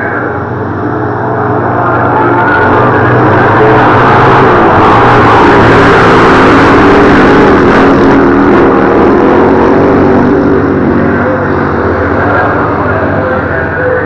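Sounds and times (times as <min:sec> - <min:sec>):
racing motorcycle engines: 0:00.0 - 0:14.0.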